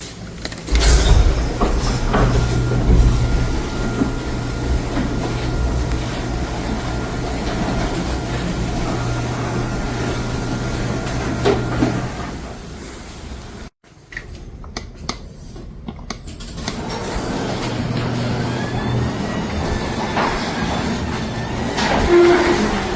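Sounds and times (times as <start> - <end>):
door rattling along tracks: 0.2 - 13.7, 16.4 - 22.9
garage door opener motor humming: 0.4 - 13.7, 16.5 - 22.9.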